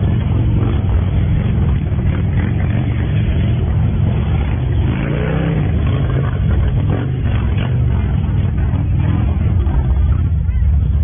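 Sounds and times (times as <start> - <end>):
motorcycle engine revving: 0.0 - 10.4
motorcycle engines running: 0.0 - 11.0.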